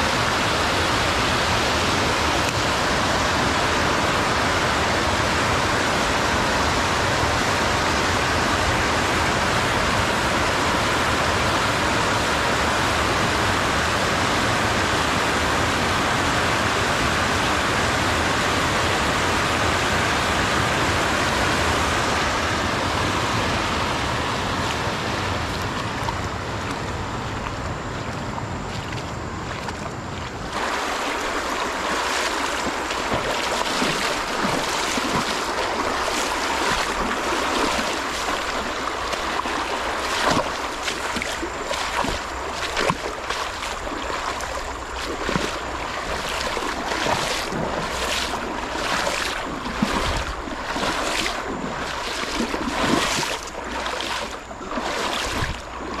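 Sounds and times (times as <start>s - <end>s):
river water pouring over weir: 0.0s - 56.0s.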